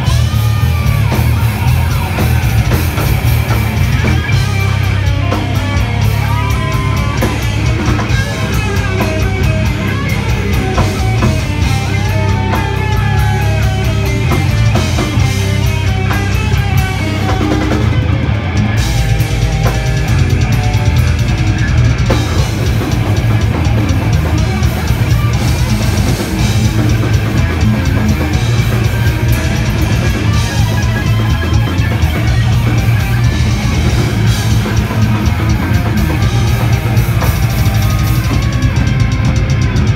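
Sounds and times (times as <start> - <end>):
distorted electric guitars: 0.0 - 39.9
drum kit with heavy bass drum: 0.0 - 39.9.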